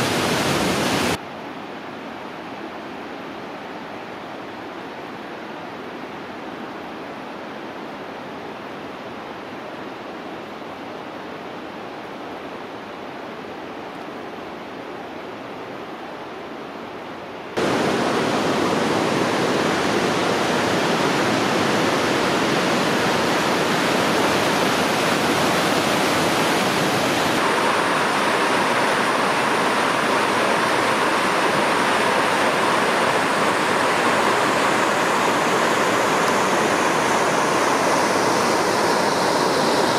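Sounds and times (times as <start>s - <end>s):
waterfall and rapids rushing: 0.0s - 39.9s.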